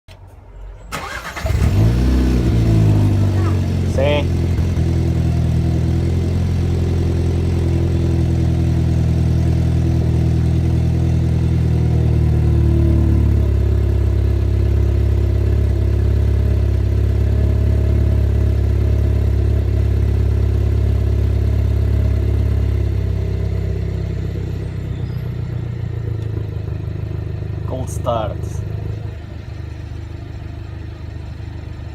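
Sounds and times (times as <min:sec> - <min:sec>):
car engine idling: 0:00.2 - 0:31.9.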